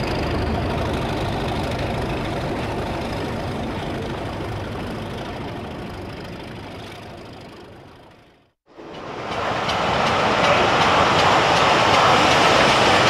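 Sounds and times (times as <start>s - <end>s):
model locomotive engine idling: 0.0s - 13.0s.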